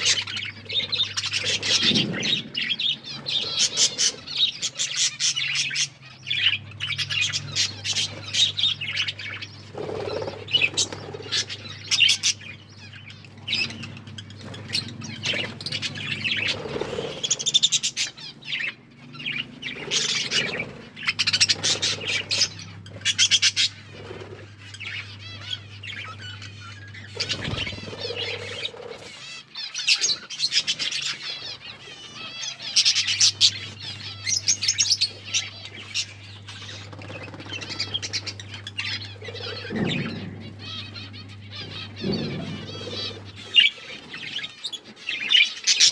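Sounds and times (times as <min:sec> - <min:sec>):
budgerigars chattering: 0:00.0 - 0:45.9
low steady hum: 0:00.0 - 0:45.9.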